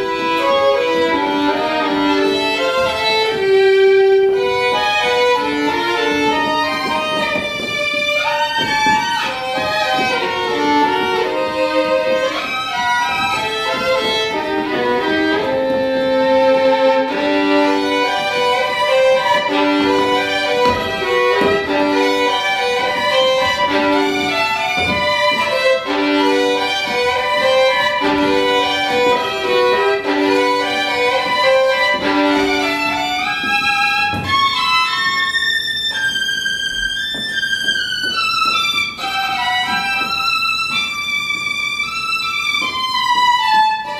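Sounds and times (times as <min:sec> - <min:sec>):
solo violin playing: 0:00.0 - 0:43.9.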